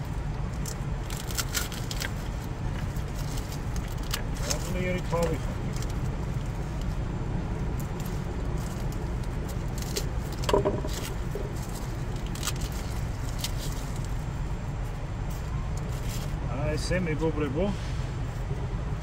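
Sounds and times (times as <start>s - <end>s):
truck rumbling: 0.0s - 19.0s.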